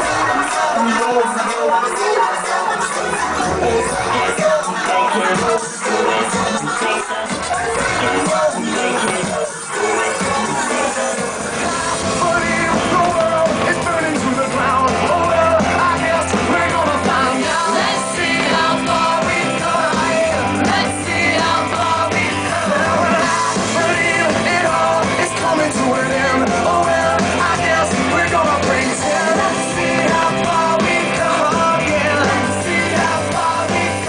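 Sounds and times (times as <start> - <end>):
pop-rock song with vocals: 0.0 - 34.0.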